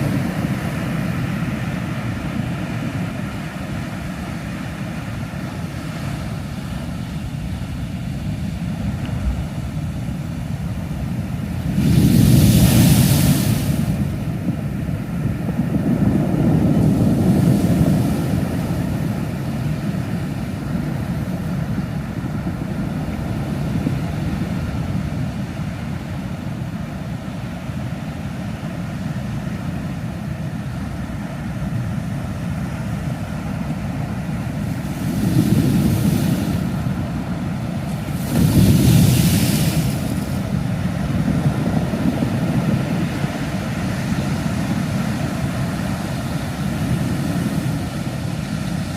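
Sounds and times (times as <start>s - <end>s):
sea surf rumbling: 0.0s - 48.9s
waves breaking with hiss: 0.0s - 48.9s.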